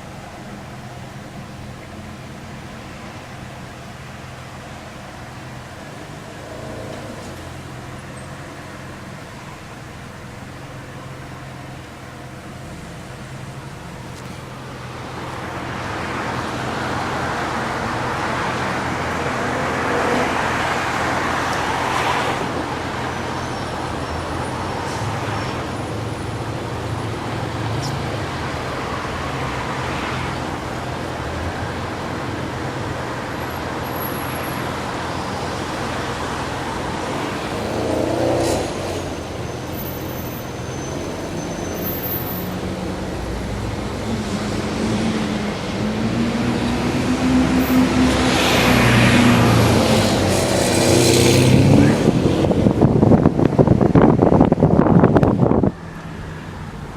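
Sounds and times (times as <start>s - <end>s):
car engines humming: 0.0s - 56.9s.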